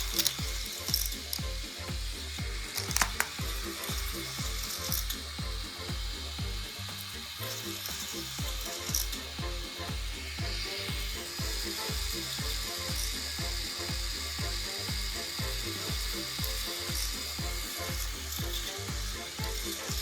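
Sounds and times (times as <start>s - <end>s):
music with low beat: 0.0s - 20.0s.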